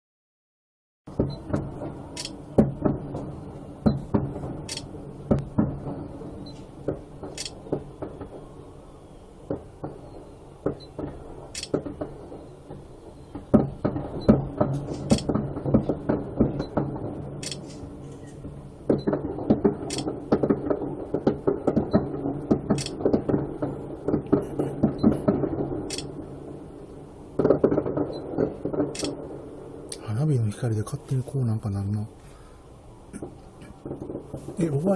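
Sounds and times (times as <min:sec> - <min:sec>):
distant fireworks booming: 0:01.1 - 0:34.9.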